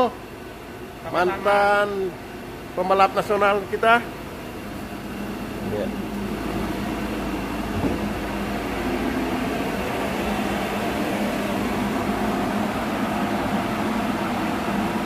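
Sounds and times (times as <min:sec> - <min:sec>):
cooling blower rushing: 0:00.0 - 0:15.0
machinery drone with low hum: 0:00.0 - 0:15.0.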